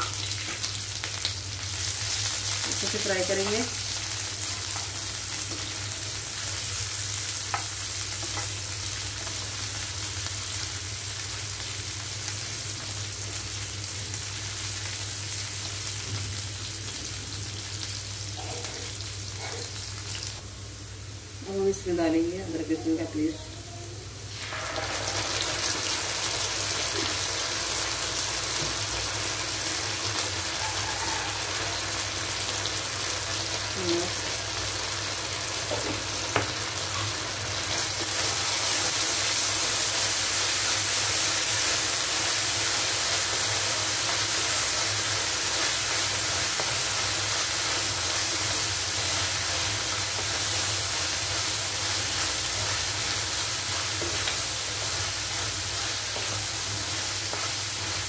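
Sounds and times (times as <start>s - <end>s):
vegetables sizzling in hot oil: 0.0s - 58.0s.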